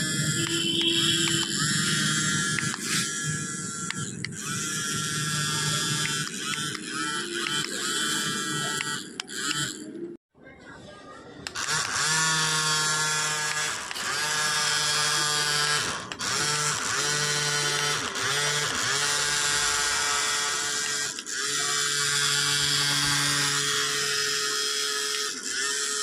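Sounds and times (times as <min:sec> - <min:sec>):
small motor whining: 0:00.0 - 0:10.2, 0:11.4 - 0:26.0.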